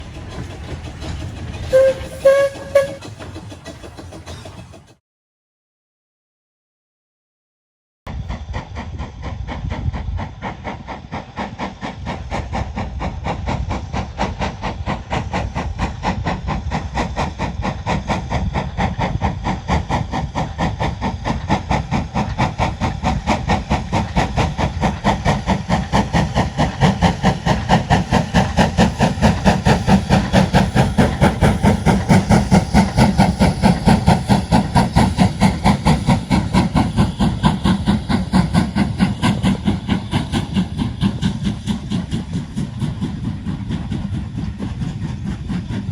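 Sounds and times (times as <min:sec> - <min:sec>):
steam locomotive exhaust beats: 0:00.0 - 0:05.0, 0:08.1 - 0:45.9.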